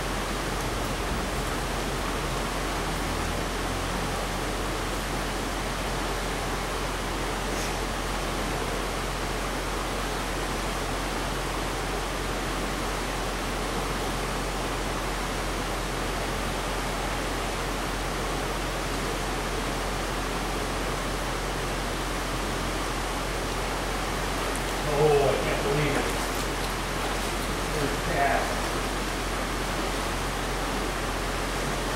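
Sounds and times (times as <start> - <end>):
stream water rushing over rocks: 0.0 - 31.9.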